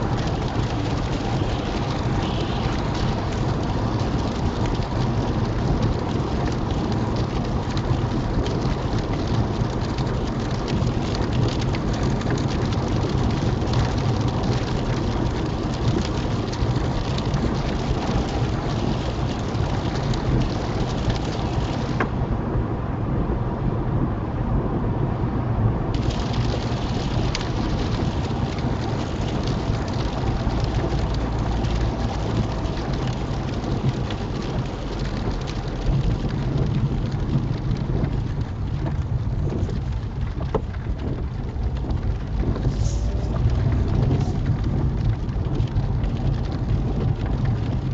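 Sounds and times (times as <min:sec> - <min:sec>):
rain hitting car windscreen: 0:00.0 - 0:22.7, 0:23.5 - 0:47.9
road and tyre noise: 0:00.0 - 0:47.9.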